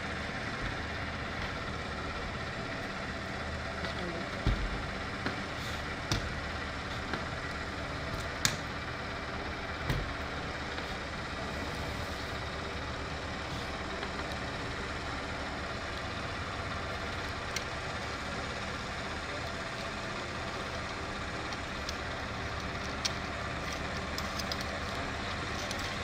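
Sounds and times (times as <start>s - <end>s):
roller engine idling: 0.0s - 26.0s.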